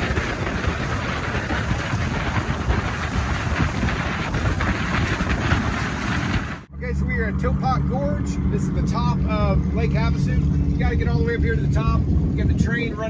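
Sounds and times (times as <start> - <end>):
motorboat running at speed: 0.0 - 13.0
wind buffeting microphone: 0.0 - 13.0.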